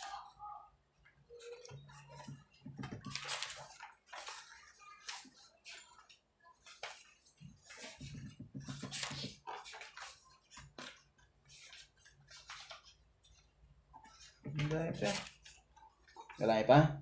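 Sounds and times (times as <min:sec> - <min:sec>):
paper pages rustling: 0:01.3 - 0:16.5.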